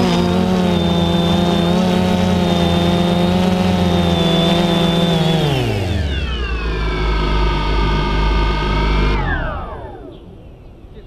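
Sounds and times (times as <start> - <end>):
drone propellers whining: 0.0 - 10.8.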